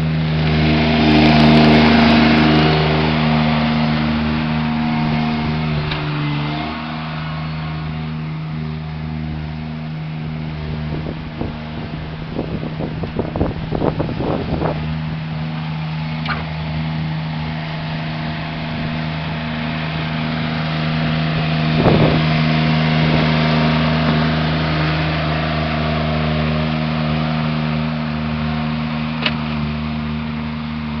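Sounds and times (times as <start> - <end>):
skid steer engine running: 0.0 - 31.0.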